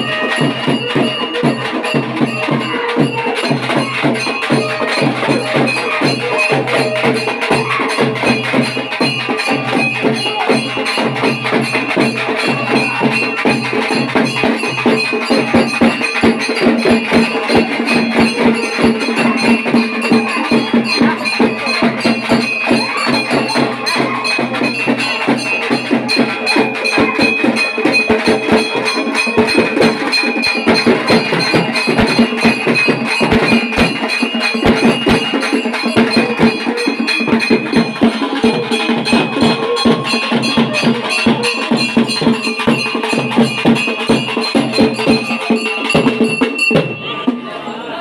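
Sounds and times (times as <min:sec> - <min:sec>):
fast drumming: 0:00.0 - 0:47.3.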